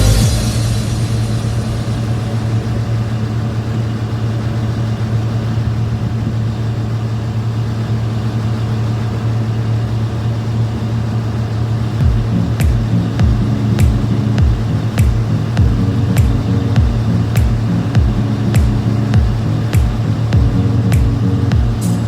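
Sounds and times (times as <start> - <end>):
heavy machine engine humming: 0.0 - 22.0.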